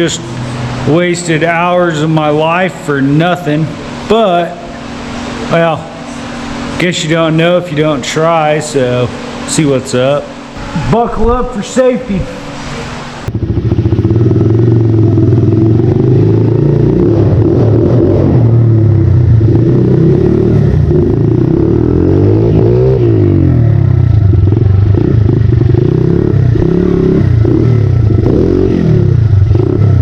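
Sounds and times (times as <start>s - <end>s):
pit bike engine revving: 0.0s - 30.0s.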